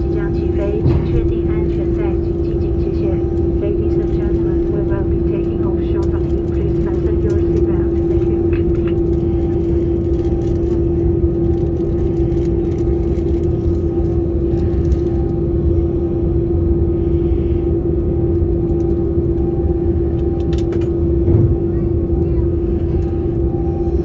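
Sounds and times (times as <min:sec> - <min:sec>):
constant hum: 0:00.0 - 0:24.0
engine and airframe rumble: 0:00.0 - 0:24.0.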